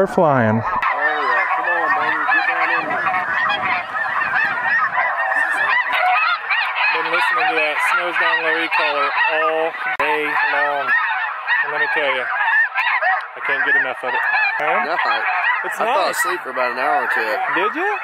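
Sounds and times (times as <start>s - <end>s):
geese yelping chorus: 0.2s - 18.0s
lower goose honks: 0.2s - 18.0s.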